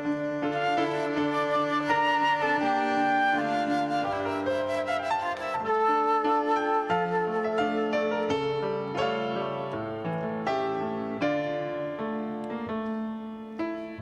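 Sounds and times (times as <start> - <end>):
piano playing hymn chords: 0.0 - 14.0.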